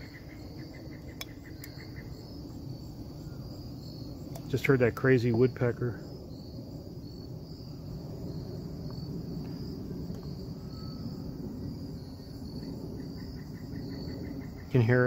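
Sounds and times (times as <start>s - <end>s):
crickets chirring: 0.0s - 15.0s
low outdoor rumble: 0.0s - 15.0s.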